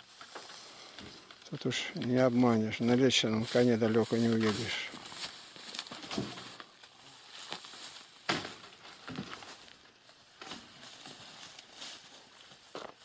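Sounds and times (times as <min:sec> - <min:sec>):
footsteps through dry grass: 0:00.0 - 0:13.0
twigs cracking and knocking: 0:00.0 - 0:13.0.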